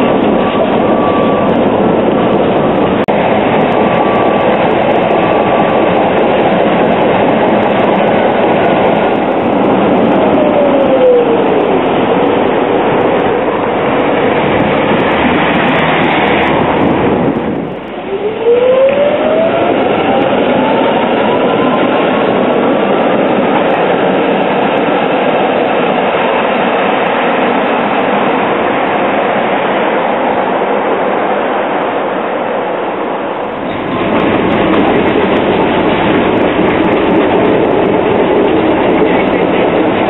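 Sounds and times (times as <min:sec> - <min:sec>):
tram traction motor whine: 0:00.0 - 0:29.5, 0:33.3 - 0:40.0
rumbling tram ride noise: 0:00.0 - 0:40.0.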